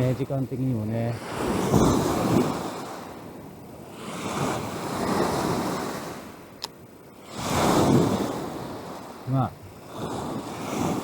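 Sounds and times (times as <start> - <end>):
waves washing against shore: 0.0 - 11.0
wind on microphone: 0.0 - 11.0.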